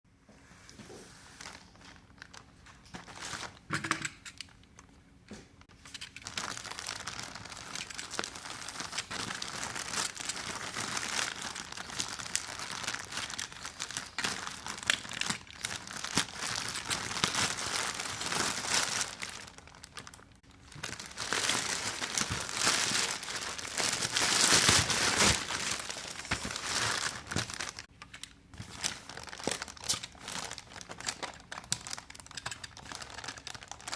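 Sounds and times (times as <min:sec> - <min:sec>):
plastic packaging crinkling: 0:01.4 - 0:03.8, 0:05.6 - 0:33.9
packaging tearing: 0:05.8 - 0:27.9, 0:28.6 - 0:33.9.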